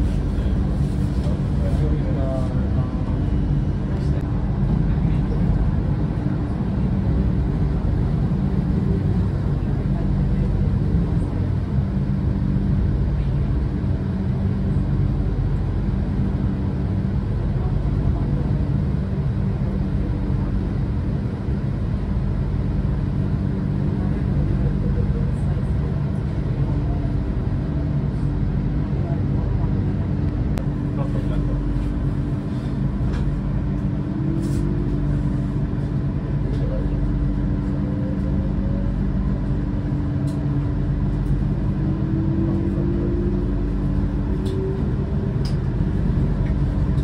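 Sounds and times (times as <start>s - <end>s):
low motor hum: 0.0s - 47.0s
tram running rumble: 0.0s - 47.0s.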